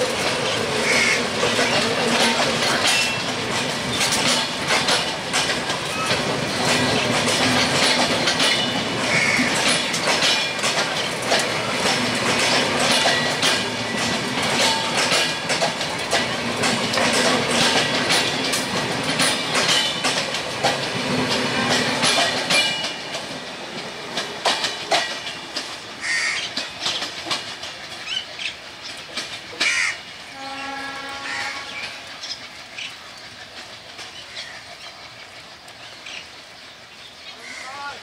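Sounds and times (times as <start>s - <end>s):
train wheels clacking over rail joints: 0.0s - 38.0s.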